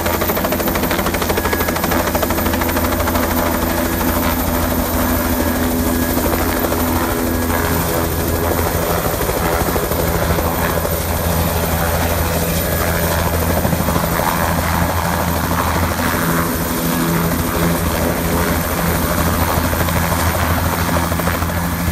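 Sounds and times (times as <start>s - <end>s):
helicopter engine whine: 0.0s - 21.9s
helicopter rotor beating: 0.0s - 21.9s.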